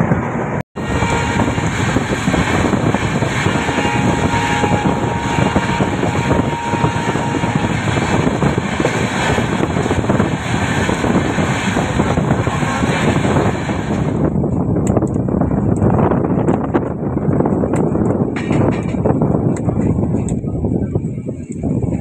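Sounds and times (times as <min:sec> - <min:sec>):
train wheels rushing on rails: 0:00.0 - 0:20.5
wind on microphone: 0:00.0 - 0:22.0.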